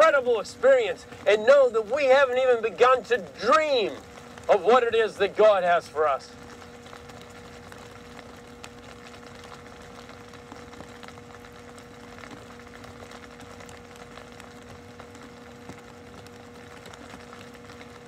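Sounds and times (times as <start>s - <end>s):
low background rumble: 0.0s - 18.0s
machine hum: 0.0s - 18.0s.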